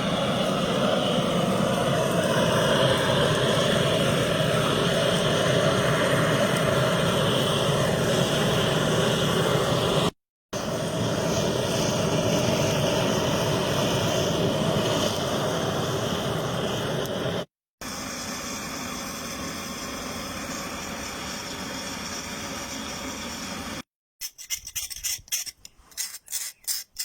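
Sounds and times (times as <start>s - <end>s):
gas blowtorch burning: 0.0s - 23.8s.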